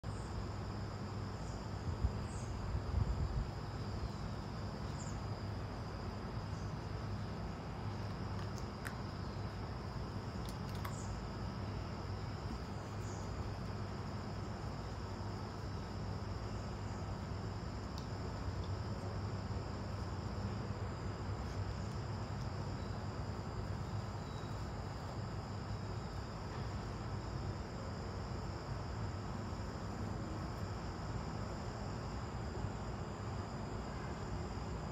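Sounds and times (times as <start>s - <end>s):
high-pitched insect chorus: 0.0s - 34.9s.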